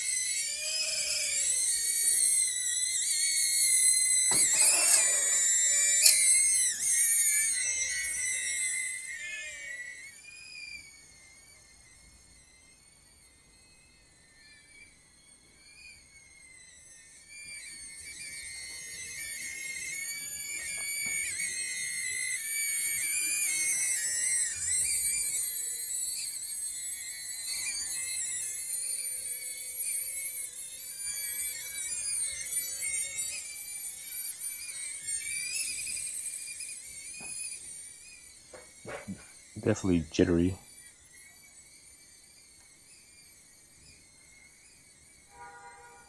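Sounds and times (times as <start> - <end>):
drone motors whining: 0.0 - 46.0.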